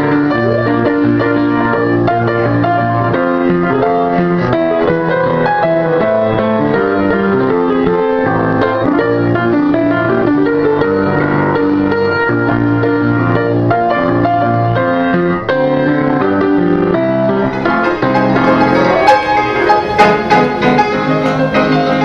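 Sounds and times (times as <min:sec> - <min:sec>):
ragtime piano: 0:00.0 - 0:22.0.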